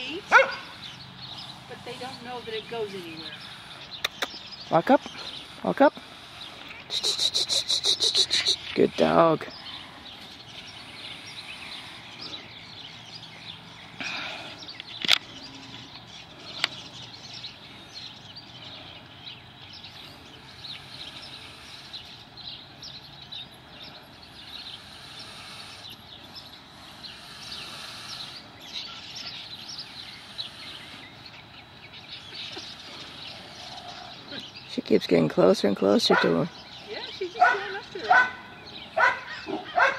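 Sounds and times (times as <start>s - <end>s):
birds and insects chirping: 0.0s - 39.9s.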